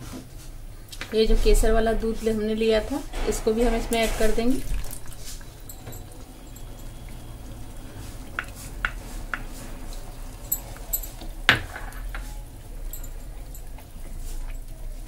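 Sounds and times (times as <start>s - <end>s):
wooden spatula stirring wet mixture: 0.0s - 15.0s.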